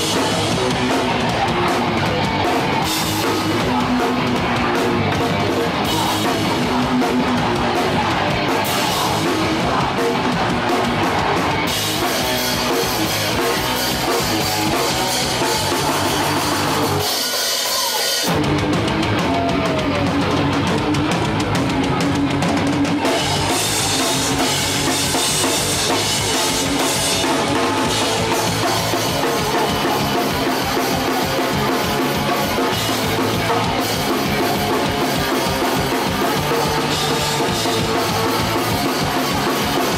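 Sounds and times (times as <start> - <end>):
punk band playing live: 0.0 - 39.9.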